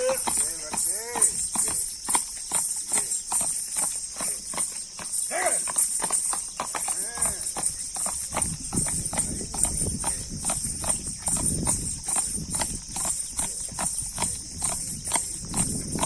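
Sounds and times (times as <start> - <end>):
horse hooves clip-clopping: 0.0 - 16.0.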